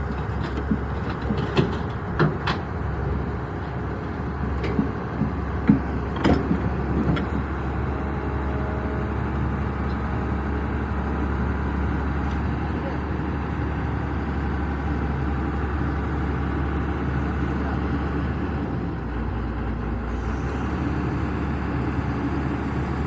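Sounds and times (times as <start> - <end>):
diesel excavator engine droning: 0.0 - 23.0.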